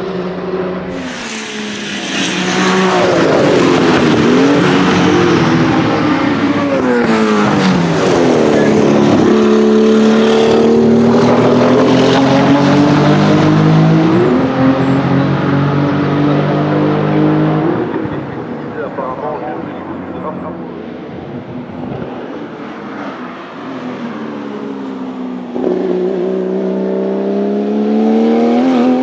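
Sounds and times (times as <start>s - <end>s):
racing engine at speed: 0.0s - 29.0s.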